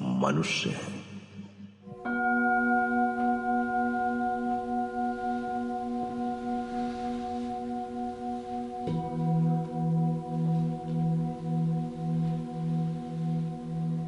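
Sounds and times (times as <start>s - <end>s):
ringing metal bell tone: 2.0s - 14.0s.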